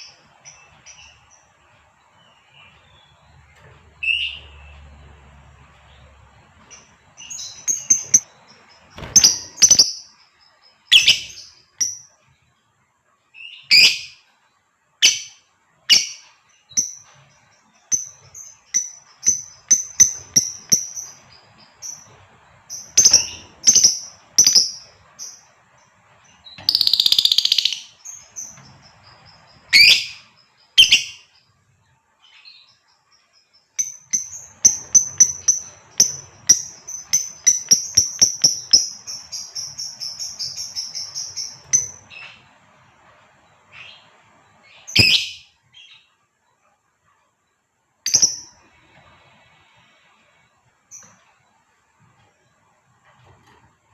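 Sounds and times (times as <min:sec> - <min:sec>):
lovebird chirping: 0:00.0 - 0:12.5, 0:13.3 - 0:14.3, 0:14.9 - 0:46.6, 0:48.0 - 0:51.7.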